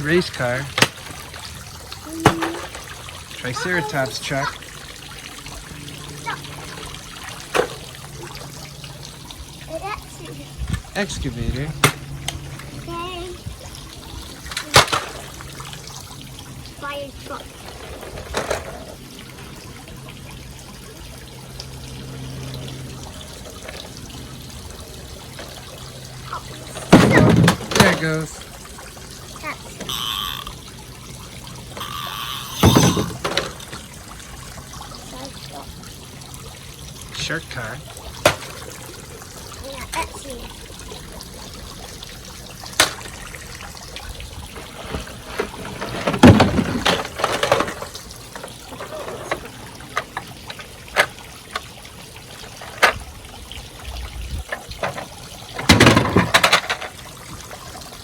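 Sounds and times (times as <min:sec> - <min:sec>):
toy truck splashing into water: 0:00.0 - 0:58.0
water trickling into pool: 0:00.0 - 0:58.0.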